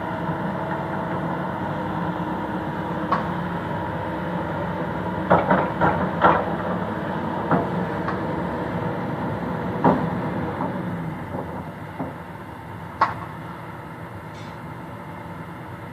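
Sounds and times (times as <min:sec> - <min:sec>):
heavy machine engine running: 0:00.0 - 0:15.9.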